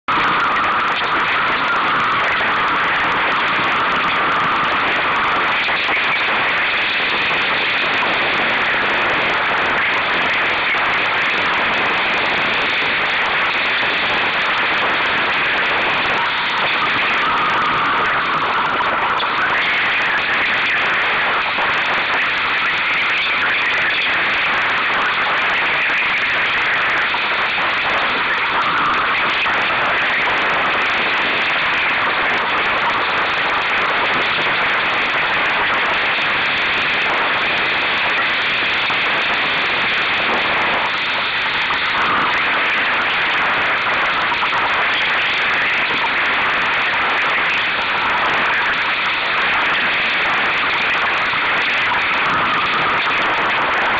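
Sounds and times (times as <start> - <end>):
water rushing: 0.1 - 53.9.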